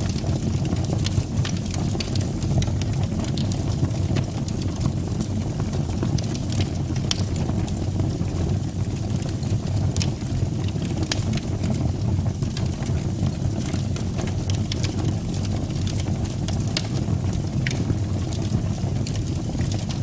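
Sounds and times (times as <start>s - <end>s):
fire crackling and popping: 0.0s - 20.0s
fire rumbling in fireplace: 0.0s - 20.0s.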